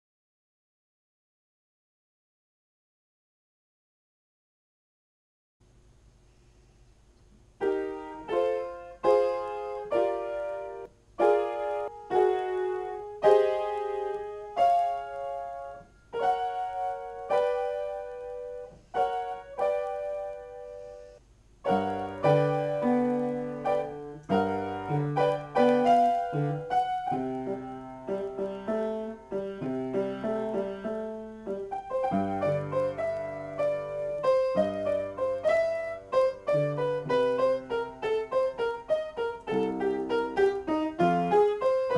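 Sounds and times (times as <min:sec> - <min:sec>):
upright piano playing solo: 0:07.6 - 0:41.9.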